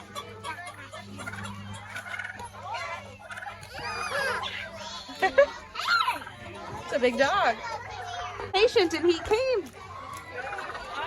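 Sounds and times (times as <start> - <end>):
poultry warbling gobble-like calls: 0.0 - 11.0.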